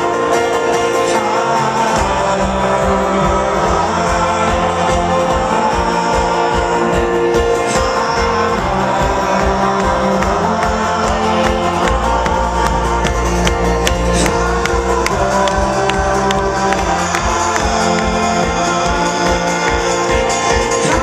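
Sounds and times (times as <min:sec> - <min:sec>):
bass: 0:00.0 - 0:21.0
folk-rock band playing: 0:00.0 - 0:21.0.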